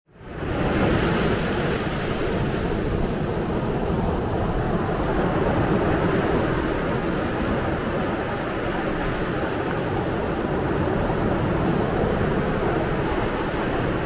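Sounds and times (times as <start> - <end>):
surf breaking on beach: 0.3 - 14.0.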